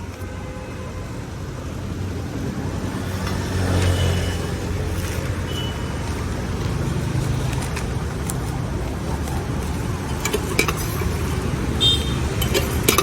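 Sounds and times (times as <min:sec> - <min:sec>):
vehicles passing with engine rumble: 0:00.0 - 0:13.0.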